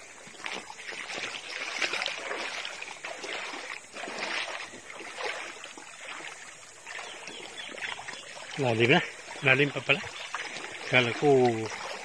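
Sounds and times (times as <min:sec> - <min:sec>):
person wading through seawater: 0:00.0 - 0:12.0.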